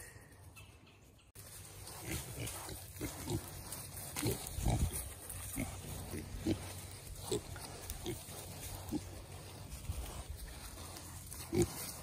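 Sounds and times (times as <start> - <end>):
pigs grunting: 1.8 - 12.0.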